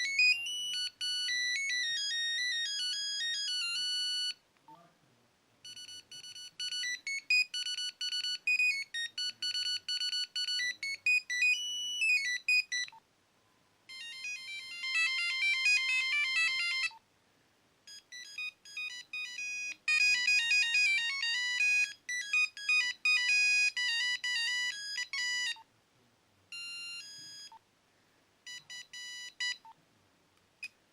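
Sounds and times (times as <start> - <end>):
monophonic phone ringtones: 0.0 - 4.4, 5.6 - 12.9, 13.9 - 17.0, 17.9 - 25.6, 26.5 - 27.6, 28.5 - 29.6.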